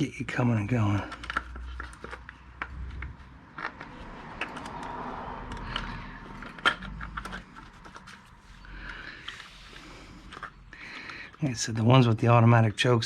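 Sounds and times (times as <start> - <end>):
hands handling metal parts: 0.4 - 12.1.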